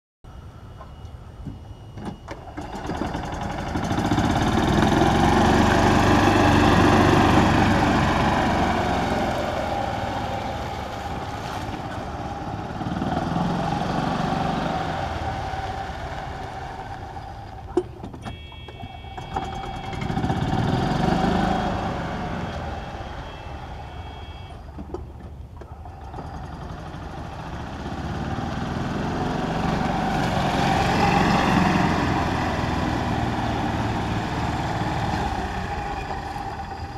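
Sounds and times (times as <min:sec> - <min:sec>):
golf cart engine running: 0:00.7 - 0:36.9.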